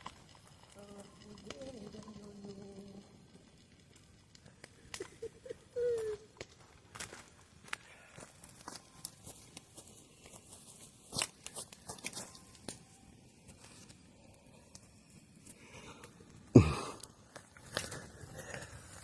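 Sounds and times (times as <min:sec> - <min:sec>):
sharp pops from fire: 0:00.0 - 0:10.4, 0:11.1 - 0:19.0
wood bonfire crackling: 0:00.0 - 0:19.0.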